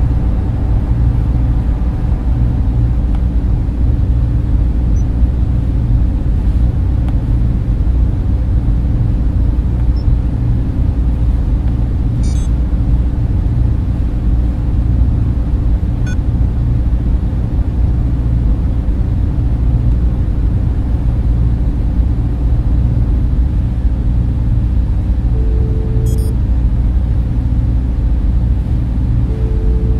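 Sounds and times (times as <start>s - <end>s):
server cooling fans whooshing: 0.0s - 29.9s.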